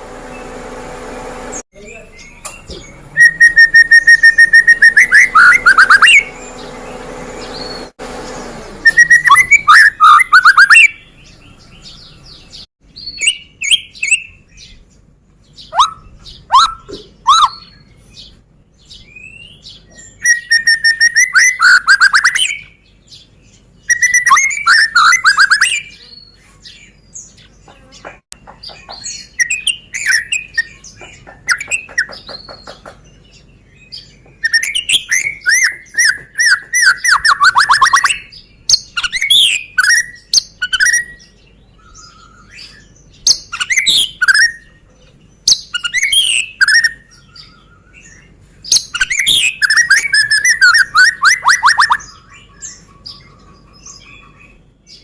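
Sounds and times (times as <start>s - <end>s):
songbird singing: 0.2s - 55.0s.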